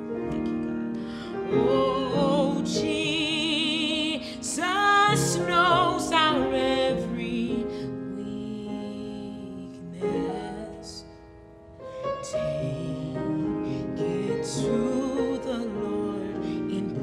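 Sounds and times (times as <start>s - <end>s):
woman singing worship song: 0.3s - 11.2s, 12.1s - 17.0s.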